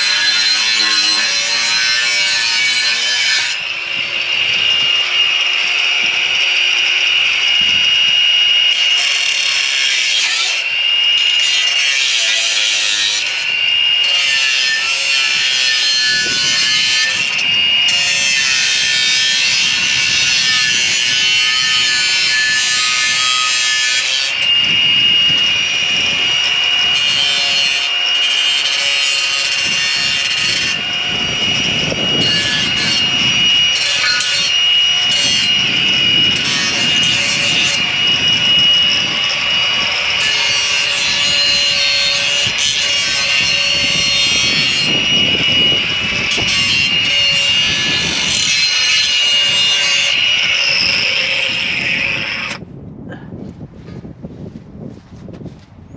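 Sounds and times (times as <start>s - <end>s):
power tool cutting with whine: 0.0s - 52.6s.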